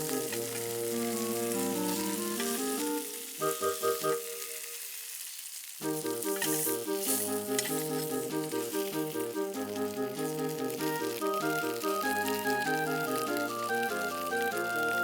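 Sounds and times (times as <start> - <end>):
background music: 0.0 - 4.6, 5.8 - 15.0
food sizzling in frying: 0.0 - 15.0.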